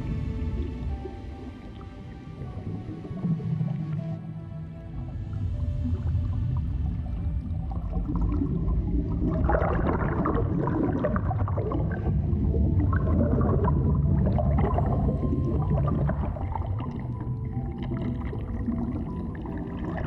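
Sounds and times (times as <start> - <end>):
underwater rumble: 0.0 - 20.0
water bubbling and gurgling: 0.0 - 20.0.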